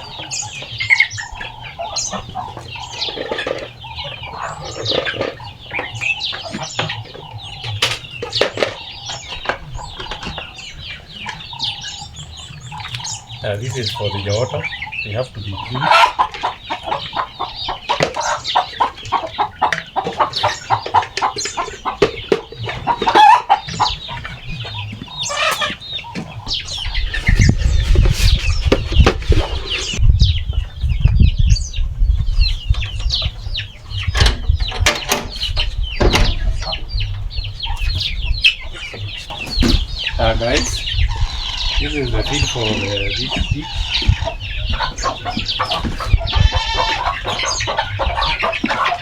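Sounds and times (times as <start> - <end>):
chickens clucking: 0.0 - 49.0.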